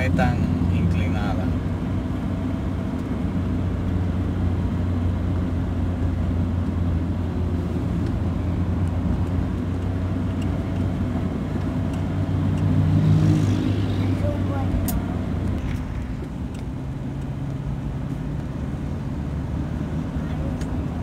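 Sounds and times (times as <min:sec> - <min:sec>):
car engine and tyre drone: 0:00.0 - 0:21.0.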